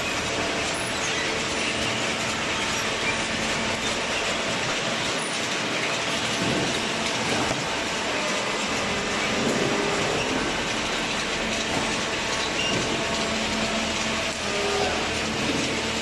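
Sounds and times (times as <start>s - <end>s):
chain conveyor clattering: 0.0s - 16.0s.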